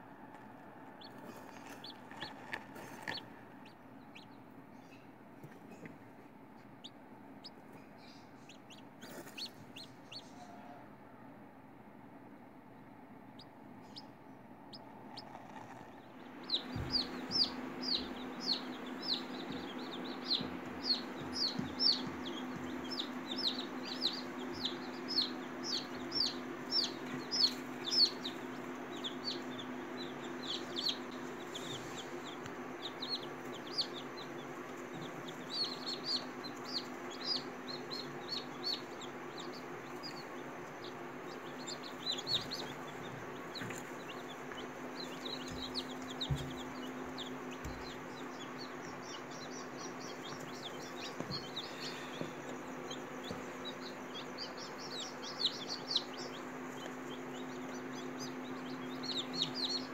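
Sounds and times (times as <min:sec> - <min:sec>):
chicks peeping: 0:00.0 - 0:11.3, 0:12.2 - 0:59.9
steady low hum: 0:00.0 - 0:59.9.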